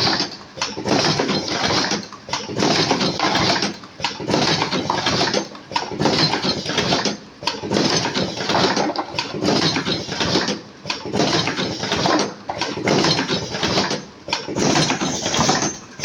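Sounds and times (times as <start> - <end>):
cartoning machine clatter: 0.0 - 16.0.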